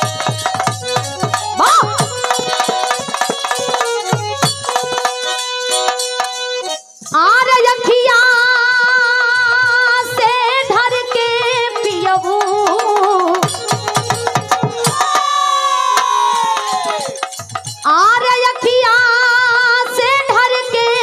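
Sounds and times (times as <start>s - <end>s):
wavering melody with vibrato: 0.0s - 21.0s.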